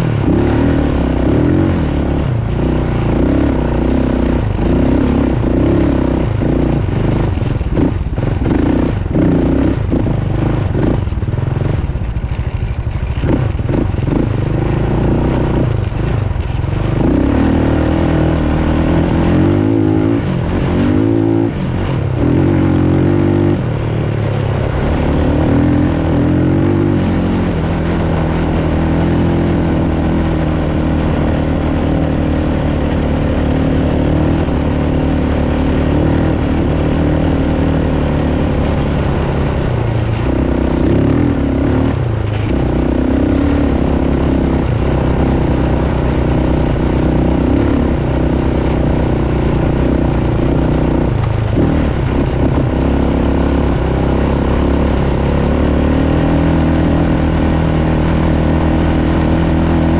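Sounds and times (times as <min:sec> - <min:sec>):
off-road vehicle engine running: 0:00.0 - 0:59.9
wind: 0:00.0 - 0:59.9.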